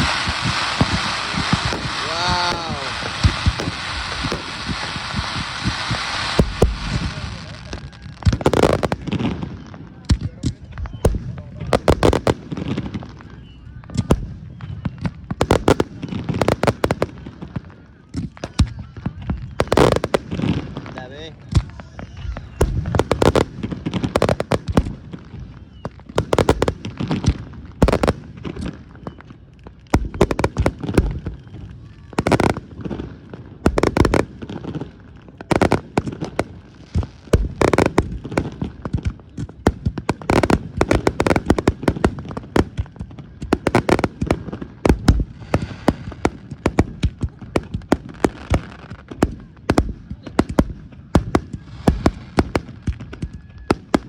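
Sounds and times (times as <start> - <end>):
fireworks bangs and booms: 0.0 - 54.0.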